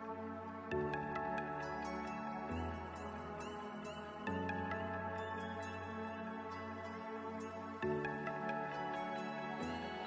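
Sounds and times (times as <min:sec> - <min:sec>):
calm chillstep music: 0:00.0 - 0:10.0.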